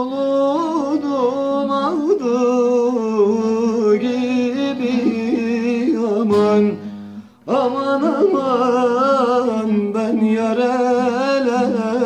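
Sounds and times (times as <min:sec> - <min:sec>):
long-necked lute playing: 0:00.0 - 0:12.0
man singing folk song: 0:00.0 - 0:12.0.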